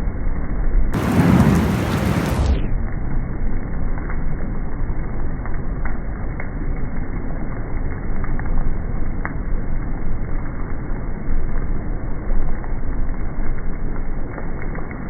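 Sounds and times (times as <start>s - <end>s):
wind rumbling: 0.9s - 15.0s
heavy rain: 1.0s - 15.0s.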